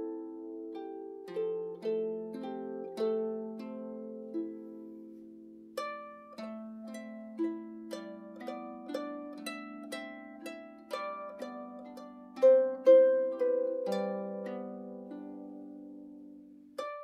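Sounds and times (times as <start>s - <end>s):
harp plucked notes: 0.0s - 17.0s.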